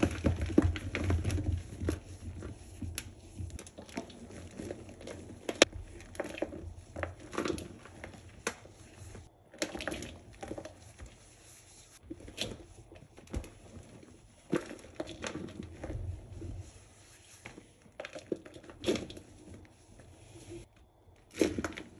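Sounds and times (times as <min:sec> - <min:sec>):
hands crushing cleanser powder: 0:00.0 - 0:20.4.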